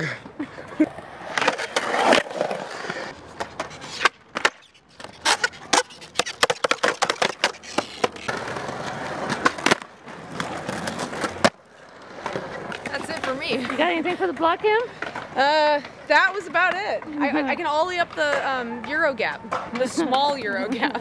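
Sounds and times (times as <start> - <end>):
skateboards clacking on concrete: 0.0 - 21.0
skateboards rolling on concrete: 0.0 - 21.0.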